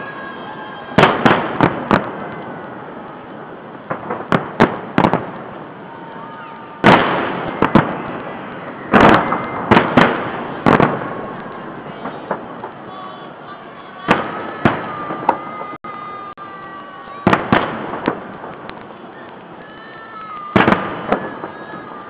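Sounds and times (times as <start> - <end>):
fireworks bangs: 0.0 - 22.0
fireworks crackle: 0.0 - 22.0.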